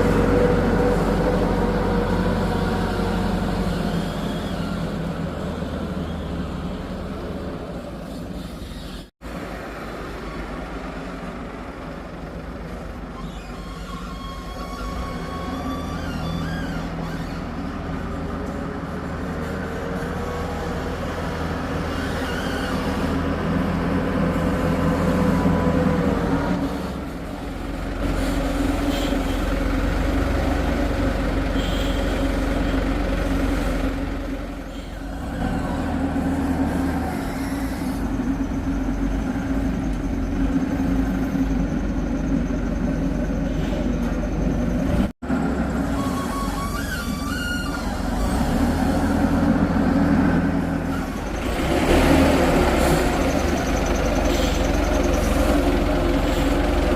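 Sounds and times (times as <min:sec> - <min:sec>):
heavy diesel engine under load: 0:00.0 - 0:56.9.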